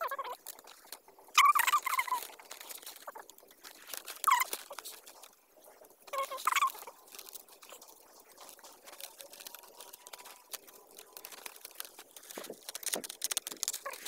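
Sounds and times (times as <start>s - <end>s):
bamboo strips clicking and rustling: 0.0s - 14.0s.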